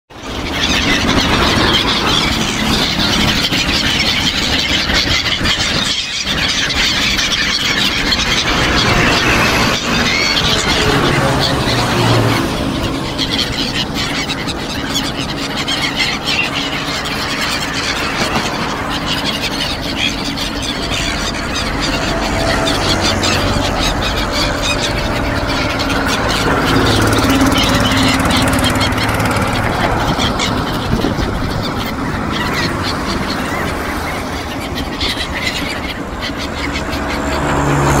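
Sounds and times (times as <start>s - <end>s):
gulls calling: 0.1s - 38.0s
traffic crossing a bridge: 0.1s - 38.0s
vehicle passing close: 6.3s - 38.0s.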